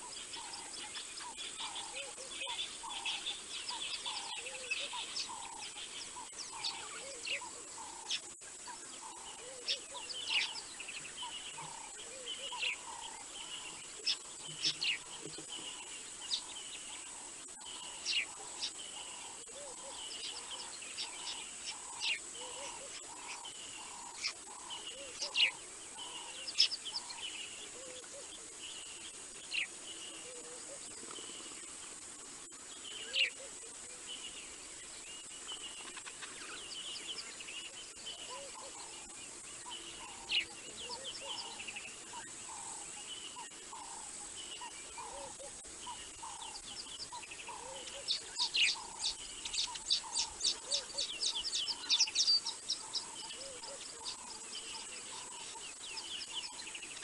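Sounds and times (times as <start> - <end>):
steady high-pitched whine: 0.0 - 57.0
wild birds calling and chirping: 0.0 - 57.0.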